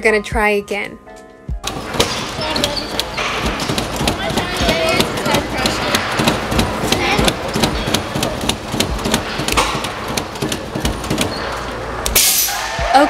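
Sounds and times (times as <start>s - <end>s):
hand levers clacking: 1.6s - 12.2s.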